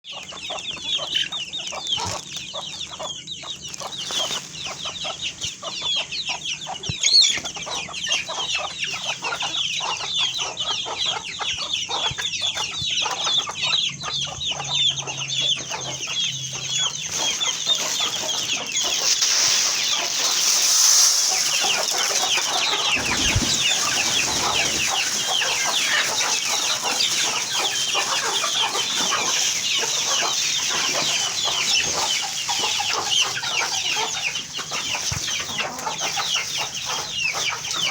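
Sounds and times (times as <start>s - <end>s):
flock of chickens calling: 0.1s - 37.9s.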